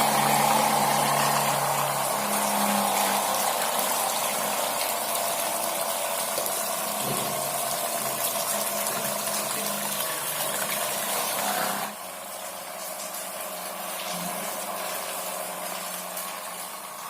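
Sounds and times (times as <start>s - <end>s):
fan motor humming: 0.0s - 17.0s
water gushing and splashing: 0.0s - 17.0s.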